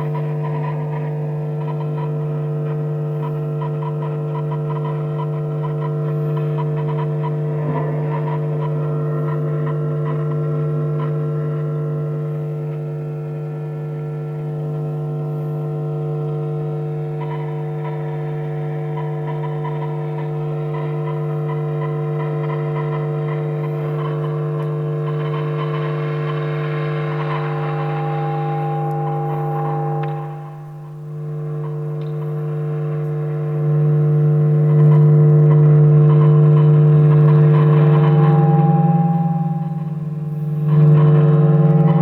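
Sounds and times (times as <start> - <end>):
guitar amp humming: 0.0 - 42.0.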